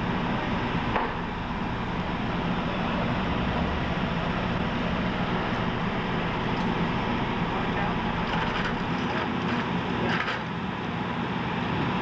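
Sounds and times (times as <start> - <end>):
machinery rumbling: 0.0 - 10.2.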